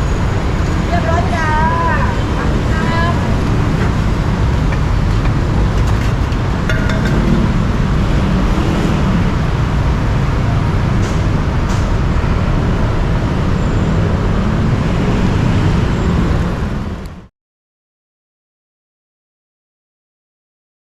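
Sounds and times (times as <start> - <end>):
city road traffic: 0.0 - 17.3.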